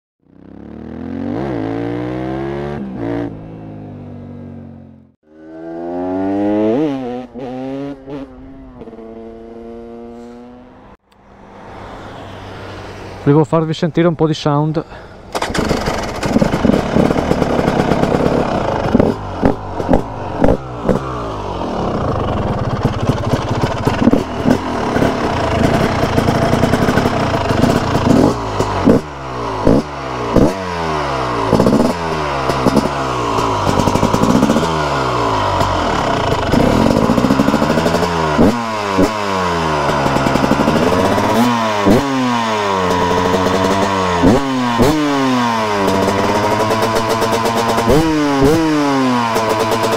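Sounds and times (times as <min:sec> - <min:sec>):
two-stroke motorcycle engine revving: 0:00.2 - 0:11.0, 0:15.3 - 0:49.9.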